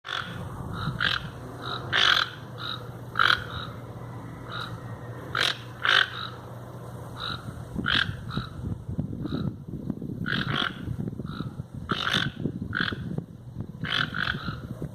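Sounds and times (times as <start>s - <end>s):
toucans croaking: 0.0s - 14.9s
steady low hum: 0.1s - 14.9s.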